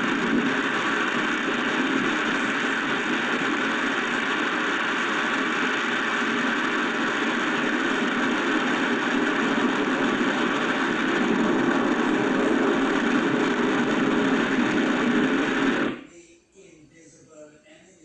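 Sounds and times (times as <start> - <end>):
heavy rain: 0.0 - 16.0
strong wind rushing: 0.0 - 16.0.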